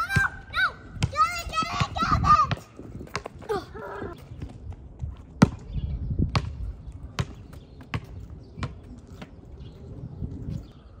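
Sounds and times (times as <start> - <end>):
basketball bouncing on asphalt: 0.0 - 3.5, 4.2 - 9.8.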